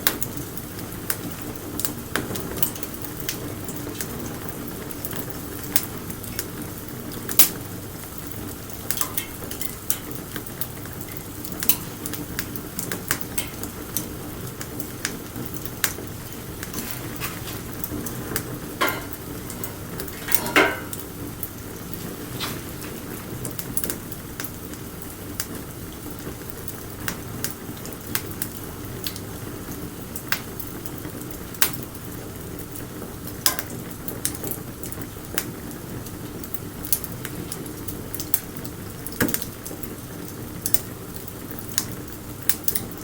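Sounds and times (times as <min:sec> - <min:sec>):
fire popping: 0:00.0 - 0:43.0
wood fire crackling and hissing: 0:00.0 - 0:43.0.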